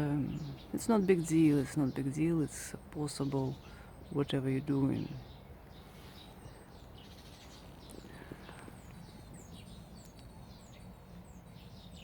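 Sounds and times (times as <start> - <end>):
faint bird chirps: 0.0 - 12.0
low background rumble: 0.0 - 12.0.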